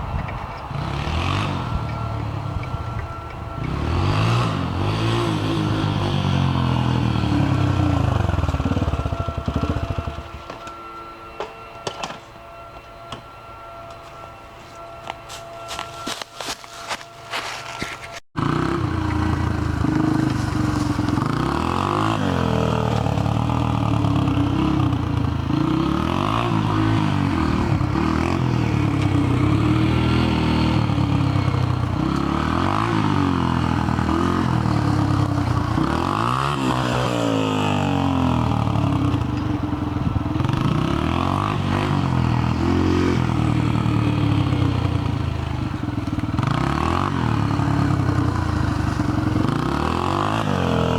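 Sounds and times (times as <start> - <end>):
motorcycle engine revving: 0.6 - 10.6, 15.8 - 50.9.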